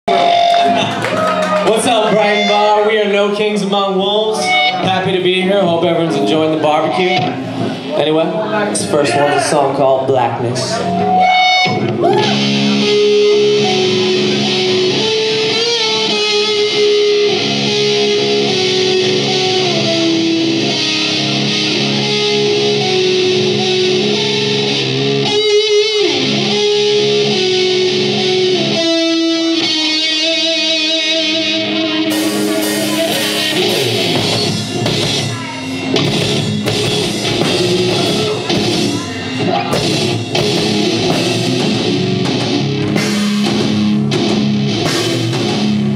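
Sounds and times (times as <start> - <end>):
electric guitar melody: 0.0 - 45.9
metal band playing: 0.1 - 45.9.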